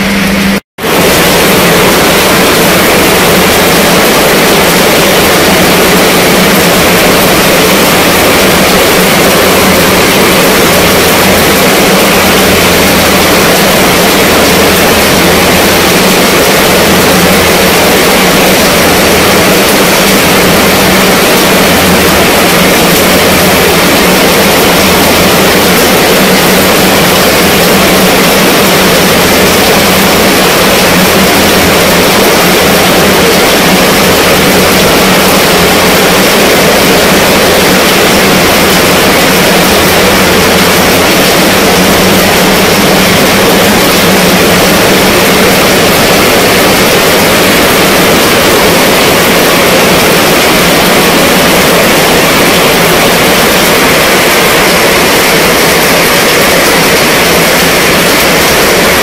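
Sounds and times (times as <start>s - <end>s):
heavy rain on a tent: 0.0s - 59.0s.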